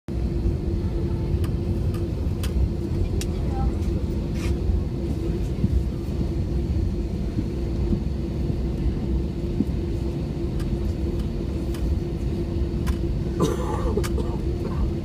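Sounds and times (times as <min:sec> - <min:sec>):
jet engines in airliner cabin: 0:00.1 - 0:15.0.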